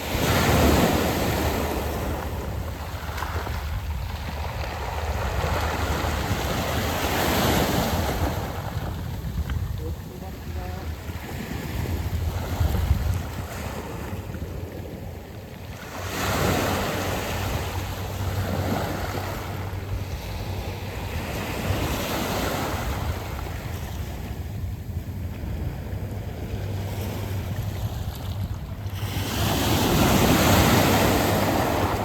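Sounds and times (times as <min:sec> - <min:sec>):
waves breaking on pebble beach: 0:00.0 - 0:15.0, 0:15.7 - 0:24.3, 0:29.0 - 0:32.0
wind rumble on microphone: 0:00.0 - 0:32.0.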